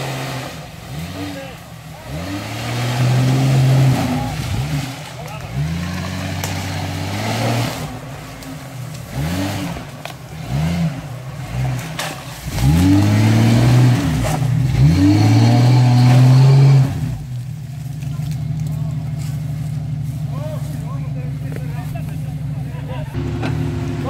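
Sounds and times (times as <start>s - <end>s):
suv engine revving: 0.0s - 24.0s.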